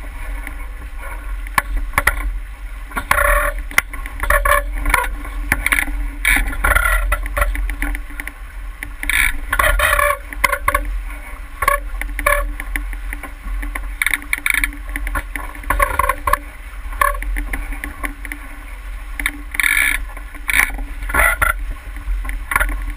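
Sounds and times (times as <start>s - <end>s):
water splashing against boat hull: 0.0s - 22.9s
wind rumble on microphone: 0.0s - 22.9s.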